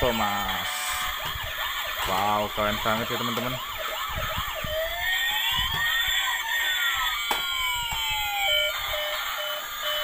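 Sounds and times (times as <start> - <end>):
toy siren wailing: 0.0 - 10.0.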